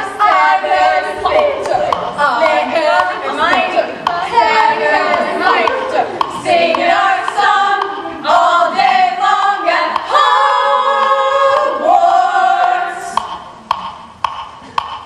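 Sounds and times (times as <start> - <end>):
women singing a cappella: 0.0 - 13.2.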